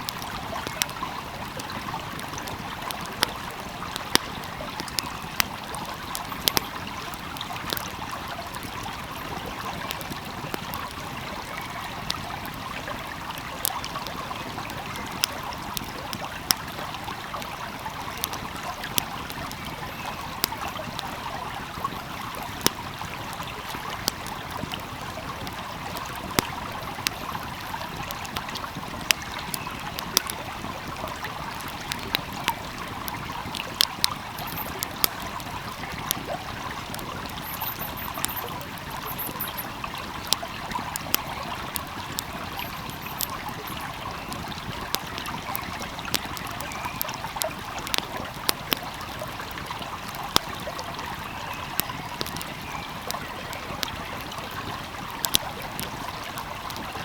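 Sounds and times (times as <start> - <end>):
stream flowing: 0.0 - 57.0
wood fire crackling: 0.0 - 57.0.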